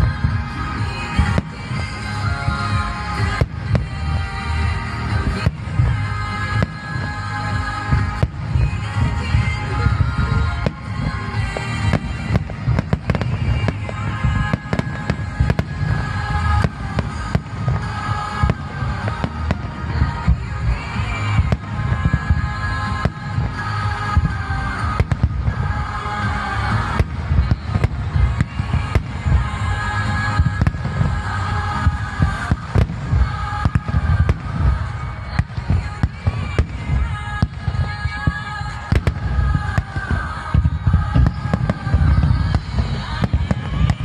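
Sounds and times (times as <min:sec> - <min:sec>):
fireworks bursting: 0:00.0 - 0:44.0
low rumble: 0:00.0 - 0:44.0.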